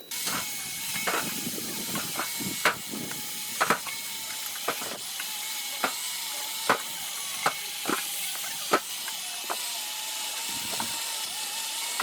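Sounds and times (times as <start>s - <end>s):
hydraulic log splitter hissing: 0.0s - 12.0s.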